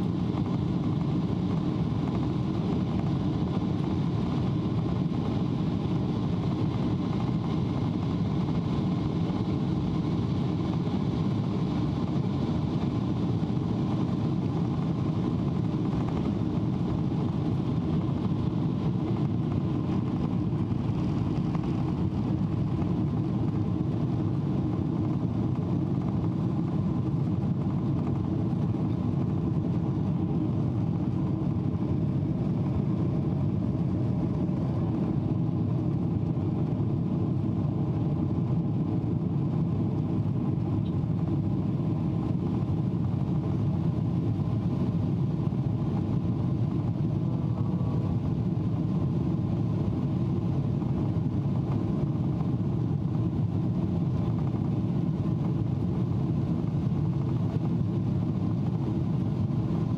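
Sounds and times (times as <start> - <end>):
jet engines low rumble: 0.0 - 59.9.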